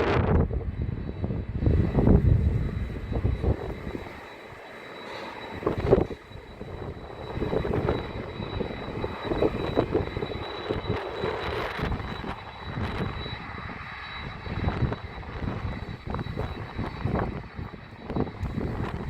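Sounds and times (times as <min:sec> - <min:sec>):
airliner engines rumbling: 0:00.0 - 0:19.0
thin high whine: 0:00.0 - 0:19.0.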